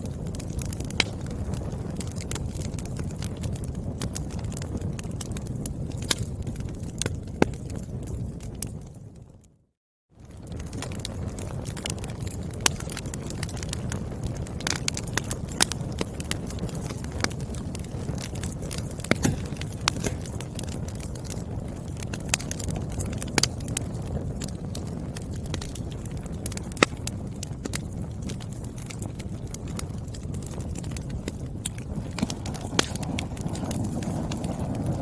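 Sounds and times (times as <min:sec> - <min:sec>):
firewood crackling and popping: 0:00.0 - 0:09.6, 0:10.2 - 0:35.0
low rumble of flames: 0:00.0 - 0:35.0.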